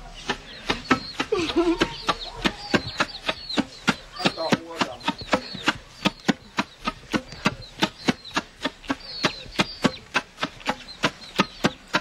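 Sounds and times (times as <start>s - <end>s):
high bird chirps: 0.0s - 12.0s
rice being beaten by hand: 0.0s - 12.0s.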